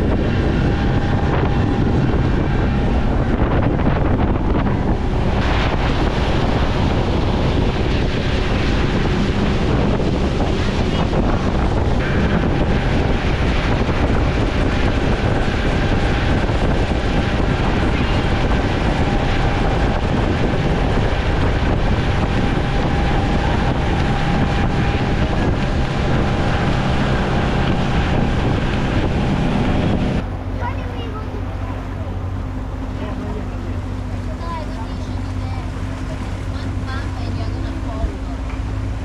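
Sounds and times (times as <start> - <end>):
faint steady whine: 0.0 - 39.0
outboard engine running: 0.0 - 39.0
water rushing and spraying: 0.0 - 39.0
wind noise on microphone: 0.0 - 39.0.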